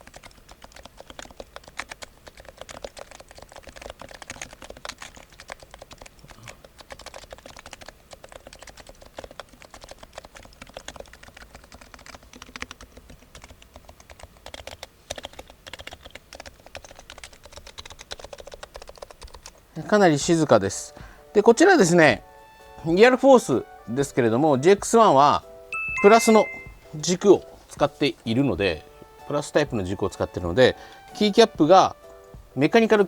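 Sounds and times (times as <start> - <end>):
fast quiet keyboard typing: 0.0 - 22.2, 24.7 - 33.0.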